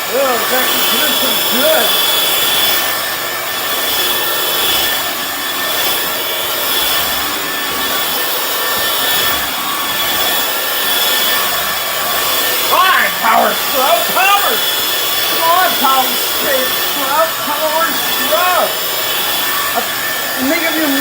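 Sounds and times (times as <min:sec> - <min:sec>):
floor cleaner motor and suction: 0:00.0 - 0:21.0.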